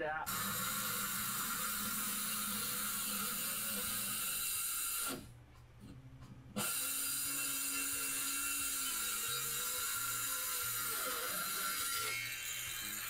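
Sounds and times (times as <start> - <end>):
circular saw cutting plywood: 0.3 - 5.2, 6.6 - 13.0.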